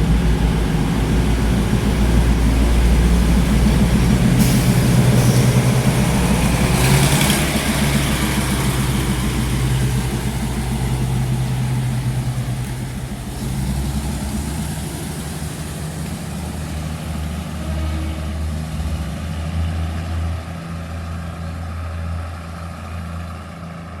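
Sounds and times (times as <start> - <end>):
diesel train engine humming: 0.0 - 24.0.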